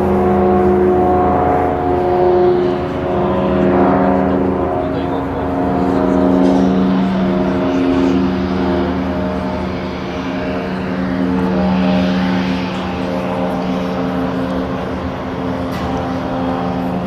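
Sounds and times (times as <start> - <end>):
propeller aircraft climbing: 0.0 - 17.0.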